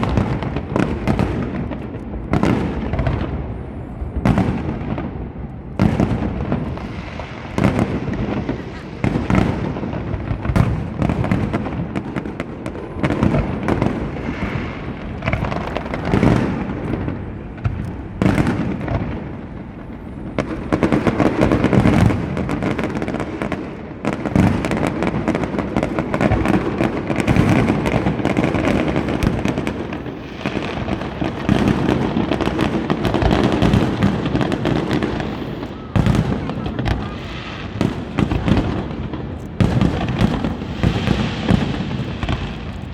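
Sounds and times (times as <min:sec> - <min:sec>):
fireworks booms and crackles: 0:00.0 - 0:42.9.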